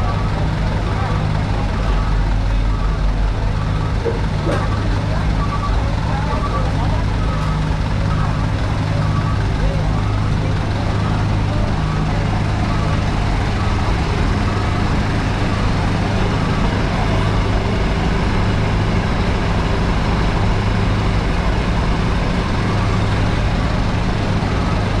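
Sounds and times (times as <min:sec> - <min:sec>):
outdoor traffic noise: 0:00.0 - 0:25.0
truck engines humming: 0:00.0 - 0:25.0.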